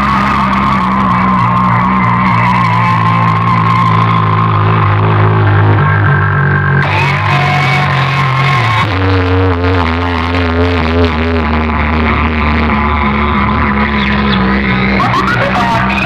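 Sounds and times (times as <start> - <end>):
loud music with heavy bass: 0.0 - 16.0.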